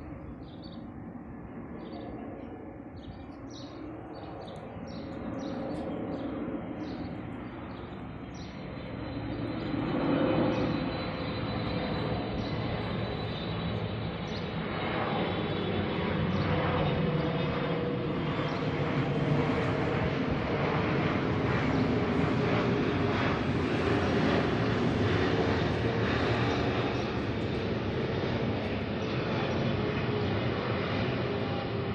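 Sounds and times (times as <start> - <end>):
airplane engine roar: 0.0 - 31.9.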